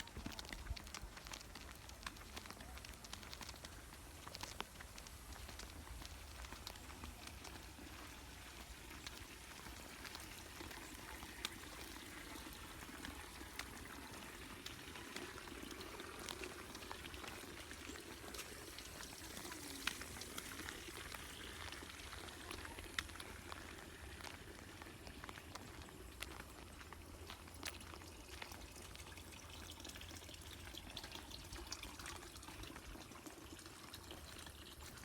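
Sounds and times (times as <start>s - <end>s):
water trickling: 0.0s - 35.0s.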